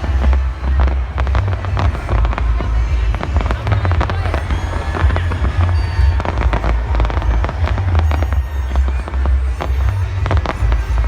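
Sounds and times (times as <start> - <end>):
continuous low rumble: 0.0 - 11.0
fireworks bangs and crackles: 0.0 - 11.0.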